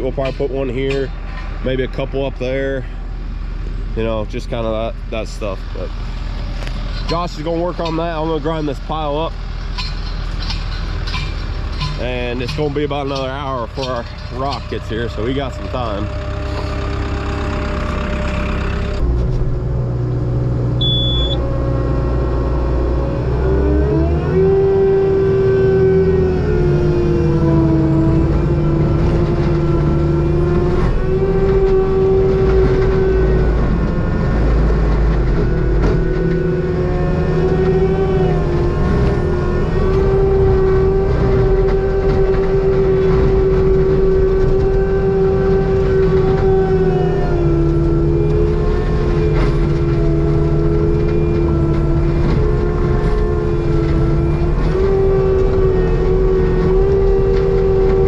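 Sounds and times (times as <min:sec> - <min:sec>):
forestry mulcher running: 0:03.8 - 0:58.0.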